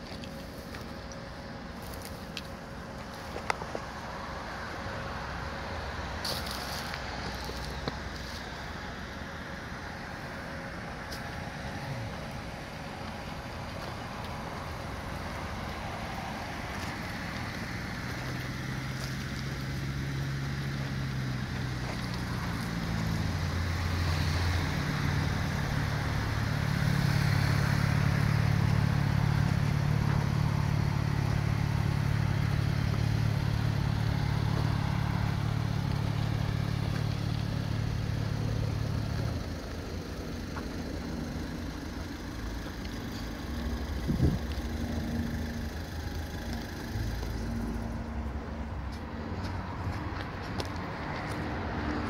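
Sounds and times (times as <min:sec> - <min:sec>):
low engine drone: 0:00.0 - 0:51.8
motor vehicle noise: 0:00.0 - 0:52.0.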